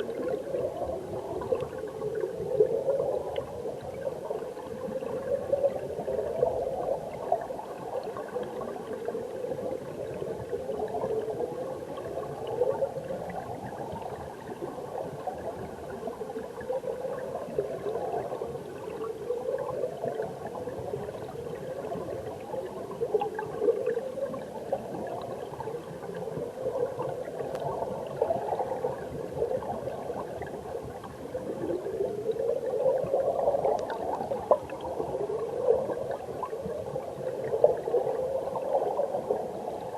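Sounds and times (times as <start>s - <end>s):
underwater stream gurgling: 0.0s - 39.9s.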